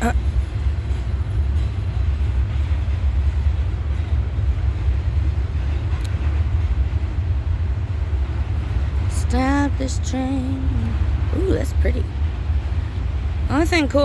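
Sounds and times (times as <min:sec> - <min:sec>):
freight train rolling past: 0:00.1 - 0:14.0.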